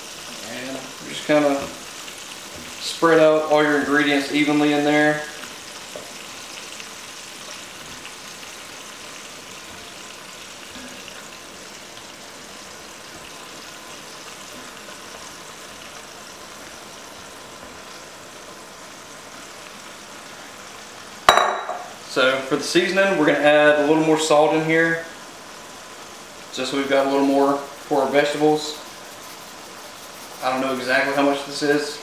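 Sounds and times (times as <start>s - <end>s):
food sizzling in pot: 0.0s - 32.0s.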